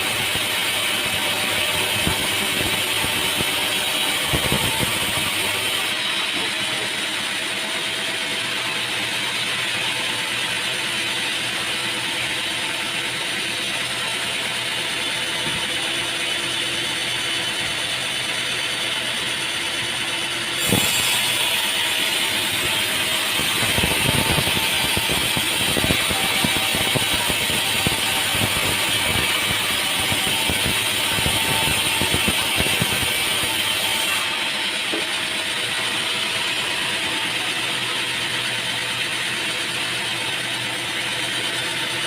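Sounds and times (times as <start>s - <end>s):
sawmill machinery clattering: 0.0s - 42.0s.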